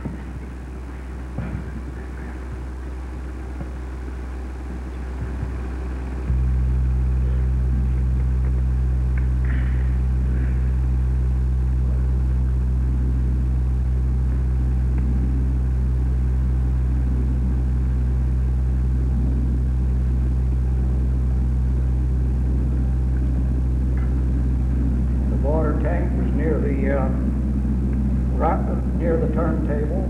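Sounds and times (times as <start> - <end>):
faint rumbling noise: 0.0 - 30.0
low electrical hum: 0.0 - 30.0.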